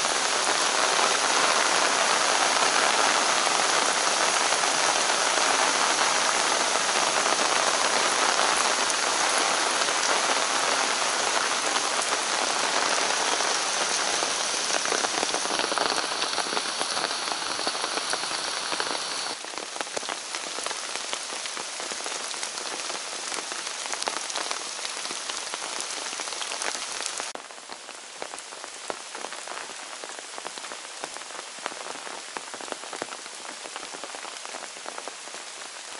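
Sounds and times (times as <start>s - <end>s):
rain falling on foliage: 0.0s - 35.9s.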